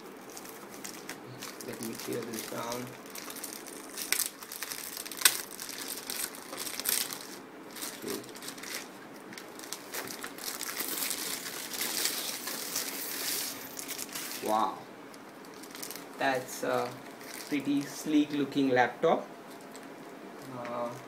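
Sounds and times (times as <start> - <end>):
plastic bag crinkling: 0.0 - 18.6.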